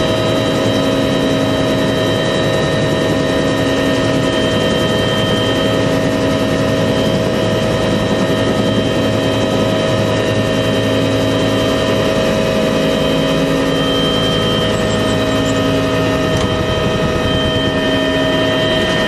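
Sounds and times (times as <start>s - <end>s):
helicopter engine whining: 0.0s - 19.0s.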